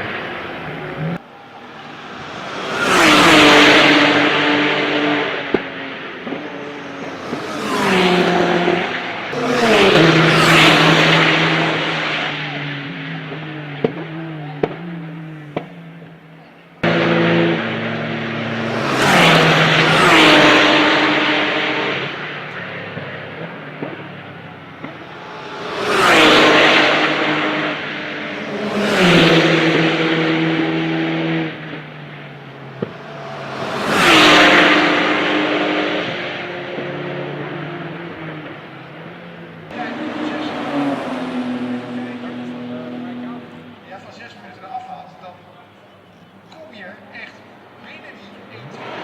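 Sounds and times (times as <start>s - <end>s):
race cars passing: 0.0s - 49.0s.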